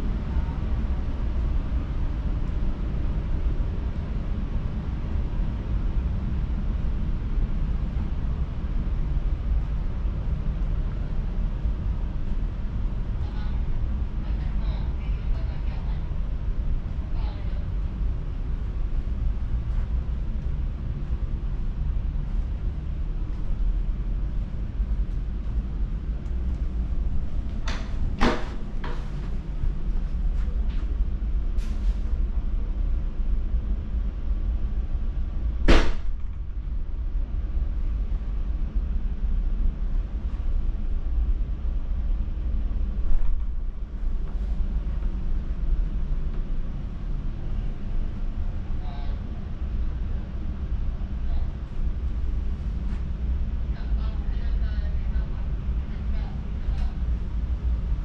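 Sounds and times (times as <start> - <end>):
train carriage hum: 0.0 - 58.0.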